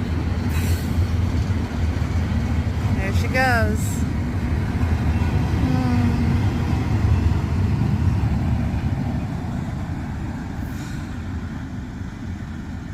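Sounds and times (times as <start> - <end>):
low vehicle rumble: 0.0 - 12.9.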